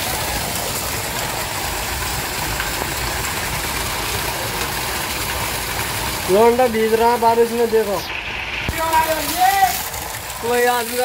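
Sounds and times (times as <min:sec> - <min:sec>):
heavy rain falling: 0:00.0 - 0:11.0
runoff pouring onto courtyard: 0:00.0 - 0:11.0.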